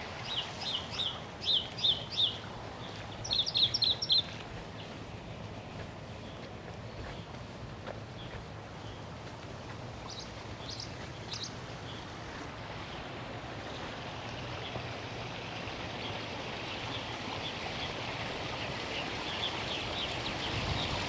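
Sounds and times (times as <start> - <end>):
small waterfall splashing: 0.0 - 5.6, 6.4 - 21.0.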